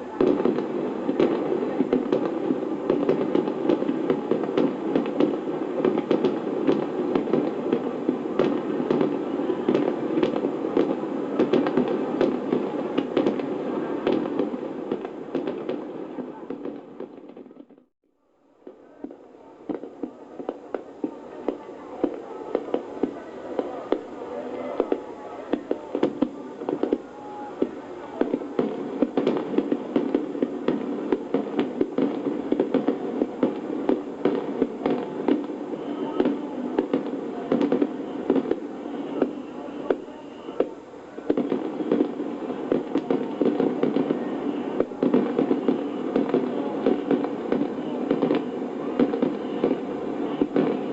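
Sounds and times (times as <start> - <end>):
fireworks bangs and crackles: 0.0 - 17.9, 18.6 - 50.9.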